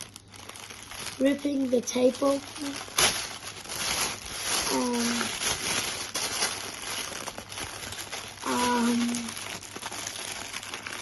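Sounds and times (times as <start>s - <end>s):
packaging crinkling and rustling: 0.0s - 11.0s
packaging tearing: 0.0s - 11.0s.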